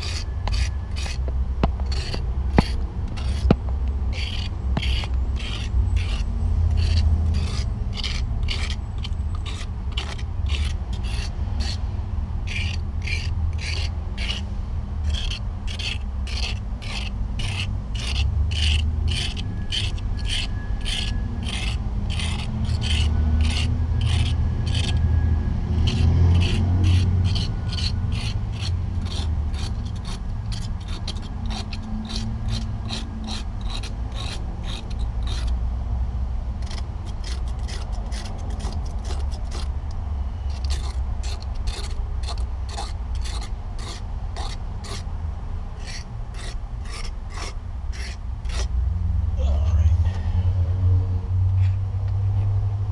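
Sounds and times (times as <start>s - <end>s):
abrasive rasping on metal pipe: 0.0s - 11.8s, 12.5s - 35.5s, 36.6s - 39.7s, 40.3s - 45.1s, 45.8s - 48.7s.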